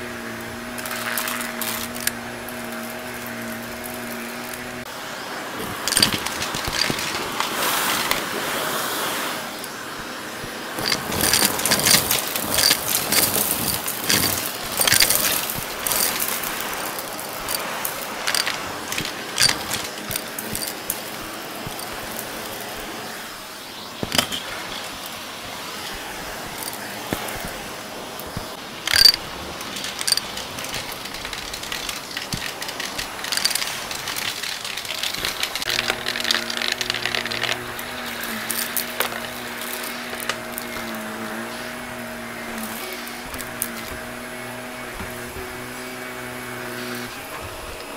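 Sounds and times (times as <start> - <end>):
debris rattling through vacuum wand: 0.0 - 4.9, 5.6 - 8.4, 10.7 - 47.3
vacuum cleaner running: 0.0 - 47.9.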